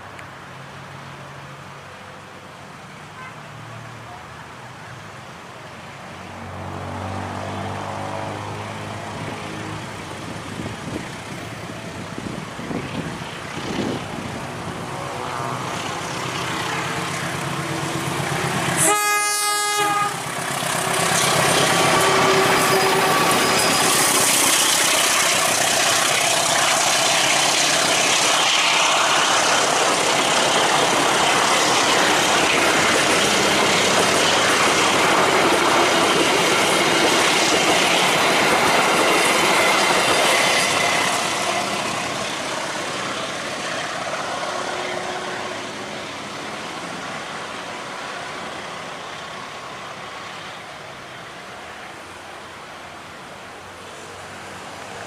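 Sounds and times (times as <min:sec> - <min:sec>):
diesel locomotive passing: 0:00.0 - 0:55.0
train wheels on rails: 0:06.0 - 0:55.0.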